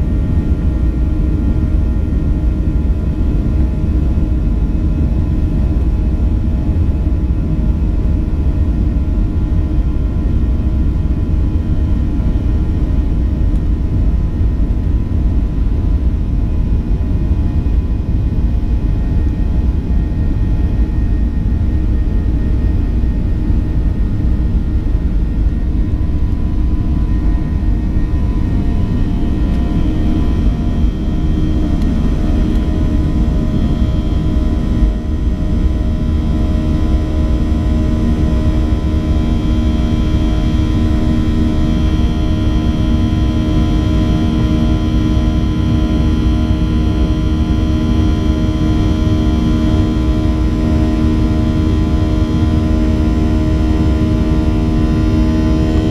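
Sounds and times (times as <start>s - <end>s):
jet engine rumble in cabin: 0.0s - 55.9s
jet engine whine: 0.0s - 55.9s.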